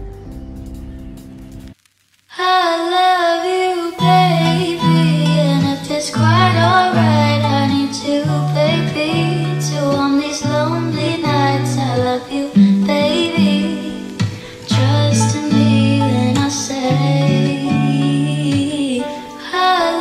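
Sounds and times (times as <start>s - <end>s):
woman singing pop melody: 2.3s - 20.0s.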